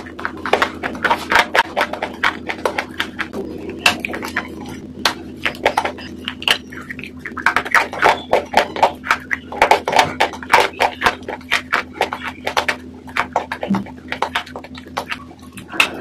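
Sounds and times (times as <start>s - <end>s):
crunching and chewing crisp food: 0.0s - 16.0s
steady low hum: 0.0s - 16.0s.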